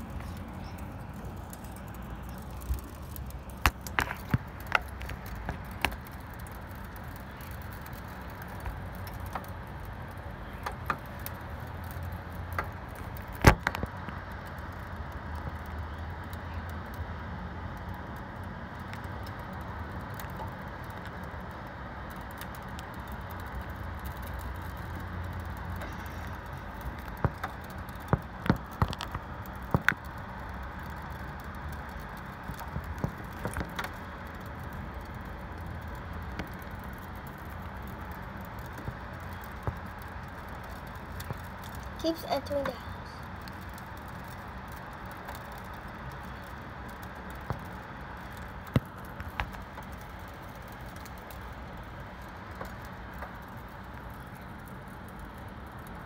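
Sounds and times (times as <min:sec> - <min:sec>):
ice pellets and freezing rain pattering: 0:00.0 - 0:56.0.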